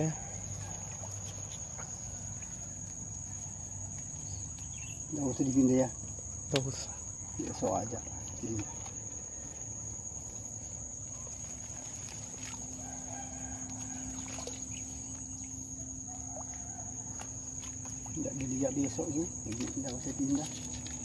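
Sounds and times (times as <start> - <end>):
insects trilling: 0.0 - 21.0
low steady hum: 0.0 - 21.0.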